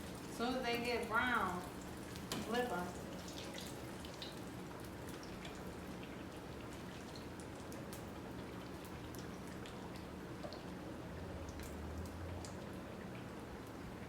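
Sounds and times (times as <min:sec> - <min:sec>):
frying oil sizzling and popping: 0:00.0 - 0:14.0.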